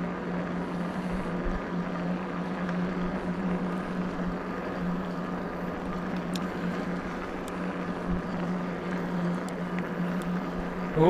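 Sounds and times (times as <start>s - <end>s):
electric bike motor humming: 0.0s - 11.0s.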